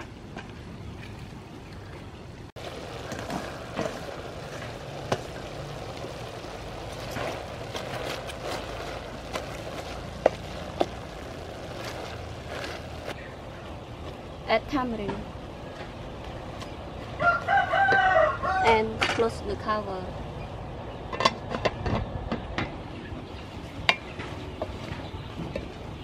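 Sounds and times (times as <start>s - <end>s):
stirring rustling hiss: 0.0s - 21.1s.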